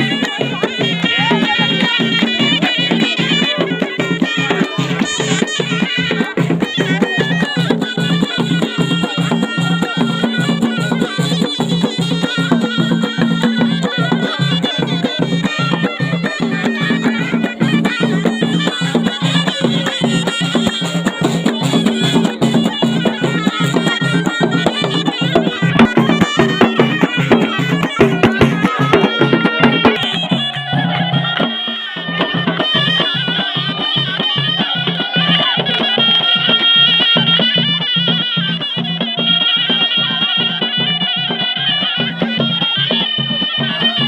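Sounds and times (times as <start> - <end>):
steady drum beat: 0.0 - 41.4
shawm playing folk melody: 0.0 - 44.0.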